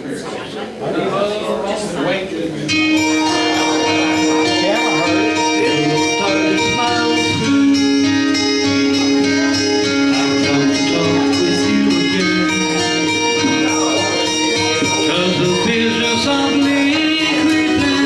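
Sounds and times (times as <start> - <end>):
long held notes: 2.7 - 18.0
plucked guitar: 2.7 - 18.0.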